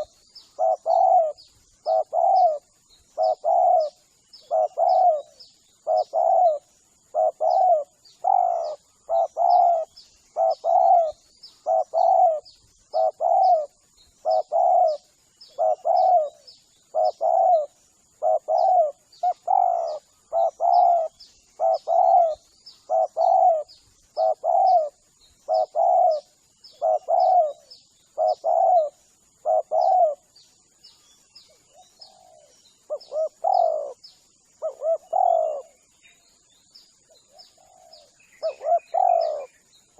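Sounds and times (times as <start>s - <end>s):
dove cooing: 0.0s - 30.4s, 31.5s - 35.9s, 37.1s - 39.6s
small high chirps: 0.0s - 39.9s.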